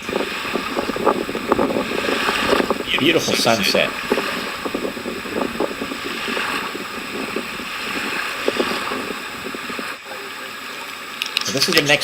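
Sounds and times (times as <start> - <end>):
wind on microphone: 0.0 - 11.4.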